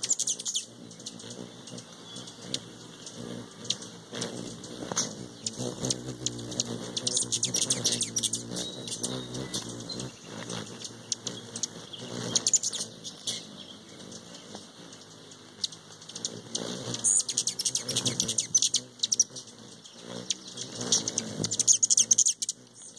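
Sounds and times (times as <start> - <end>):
high chip calls: 0.0 - 22.9
hummingbird wings humming: 0.0 - 22.9.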